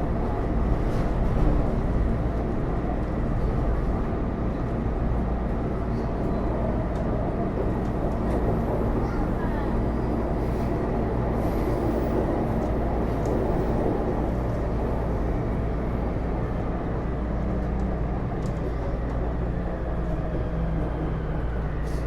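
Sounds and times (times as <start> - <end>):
low train hum: 0.0 - 22.0.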